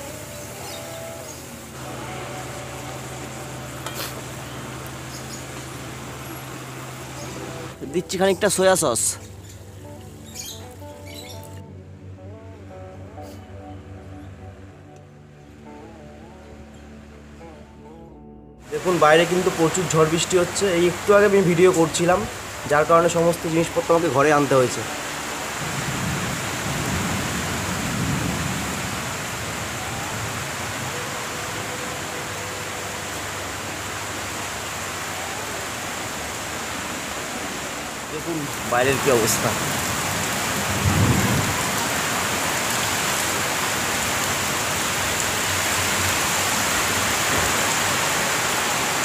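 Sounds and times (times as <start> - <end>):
heavy rain on foliage: 0.0 - 11.6, 18.6 - 49.0.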